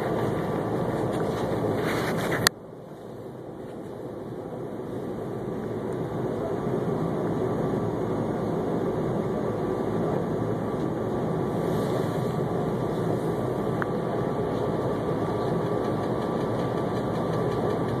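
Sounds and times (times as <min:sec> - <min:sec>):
faint steady whine: 0:00.0 - 0:18.0
railcar running rumble: 0:00.0 - 0:18.0.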